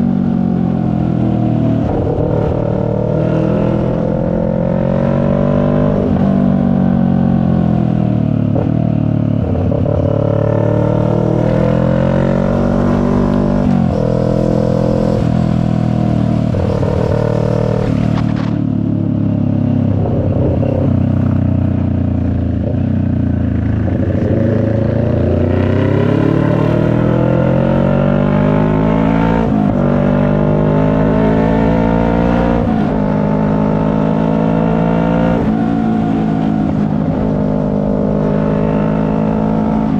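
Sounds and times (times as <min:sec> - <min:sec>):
motorcycle engine shifting gears: 0:00.1 - 0:39.9.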